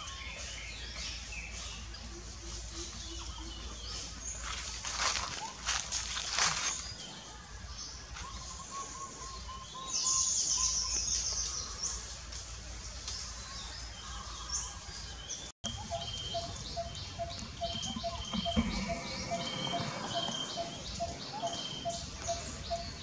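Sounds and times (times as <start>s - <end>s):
forest birds calling: 0.0s - 23.0s.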